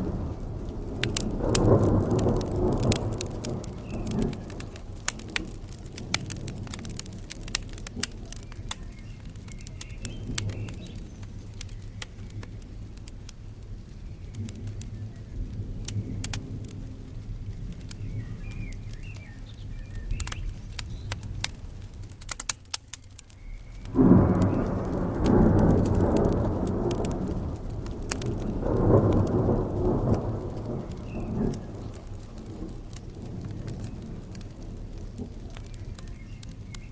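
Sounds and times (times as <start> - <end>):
thunder rumbling: 0.0 - 22.2, 23.8 - 36.9
steady rain: 0.0 - 36.9
wood fire crackling: 0.0 - 36.9.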